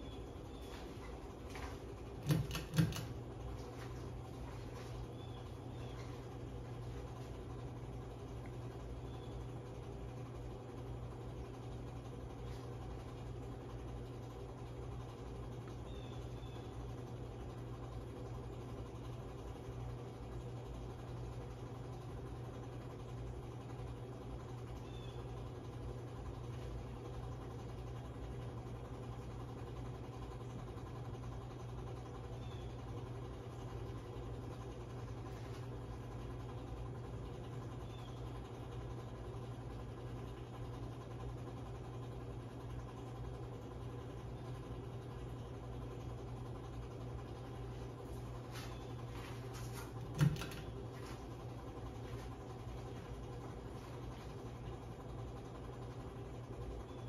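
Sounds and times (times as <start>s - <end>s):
ceiling fan running: 0.0s - 57.0s.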